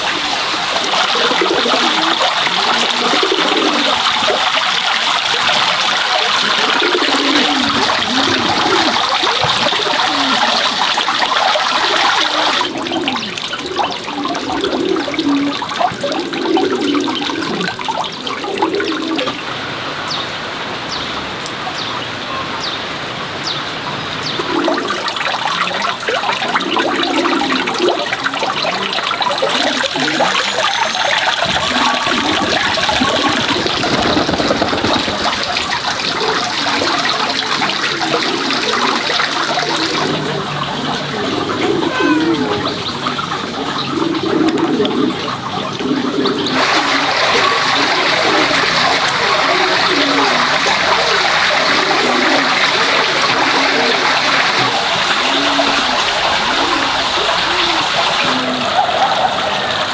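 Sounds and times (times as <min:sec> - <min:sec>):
water running and splashing: 0:00.0 - 0:59.9.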